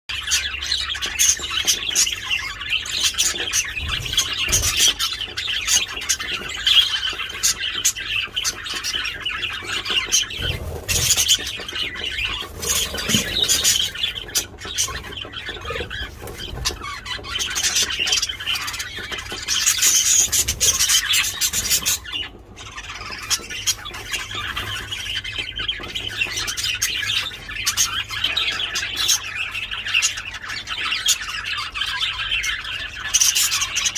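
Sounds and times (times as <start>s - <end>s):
budgerigars chattering and squawking: 0.1s - 33.9s.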